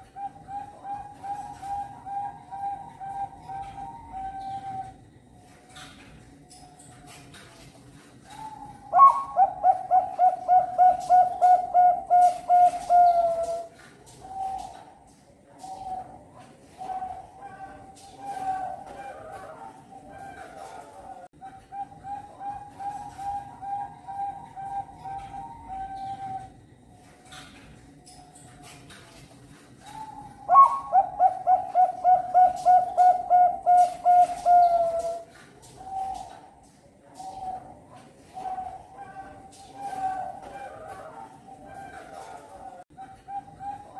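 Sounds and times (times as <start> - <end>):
dove cooing: 0.0 - 5.3, 8.2 - 27.6, 29.8 - 43.9.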